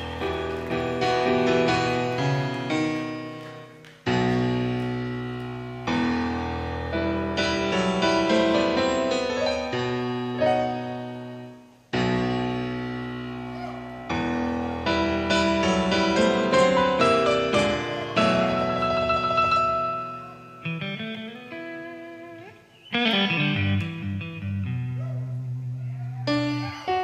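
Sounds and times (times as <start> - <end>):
solo piano chords and runs: 0.0 - 21.2, 24.8 - 27.0.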